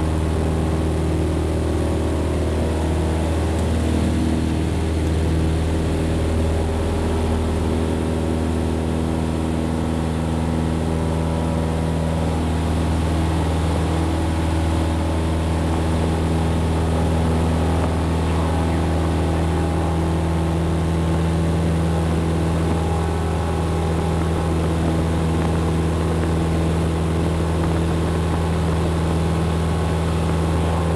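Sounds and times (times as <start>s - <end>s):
small plane engine drone in cabin: 0.0s - 30.9s.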